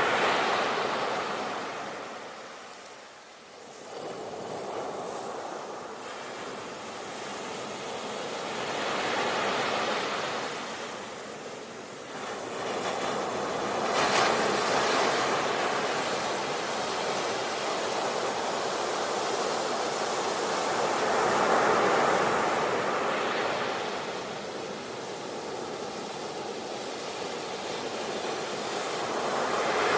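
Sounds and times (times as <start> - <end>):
sea waves breaking on shore: 3.6 - 29.9.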